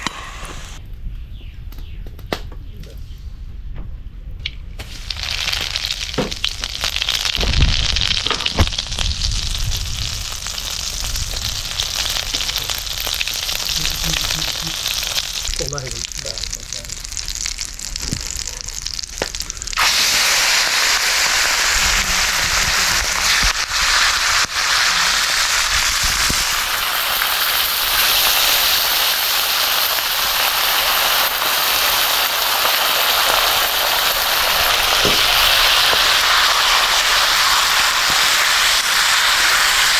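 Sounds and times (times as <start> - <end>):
food sizzling in hot oil: 4.8 - 39.9.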